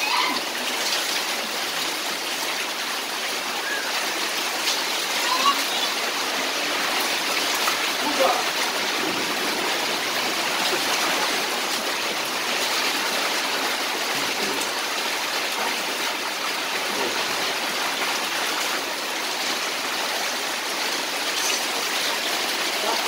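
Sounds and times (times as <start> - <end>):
rain falling on concrete: 0.0 - 23.0
water pouring from roof spout: 0.0 - 23.0.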